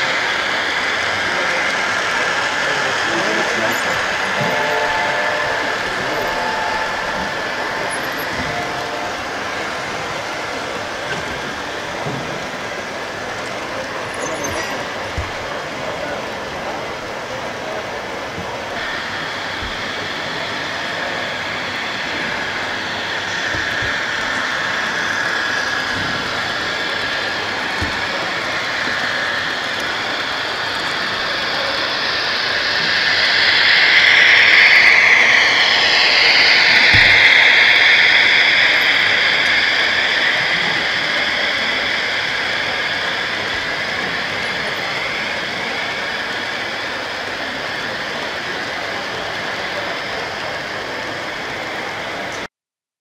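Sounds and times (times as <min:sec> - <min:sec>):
motor whine: 0:00.0 - 0:51.1
model train rolling on track: 0:00.0 - 0:52.5.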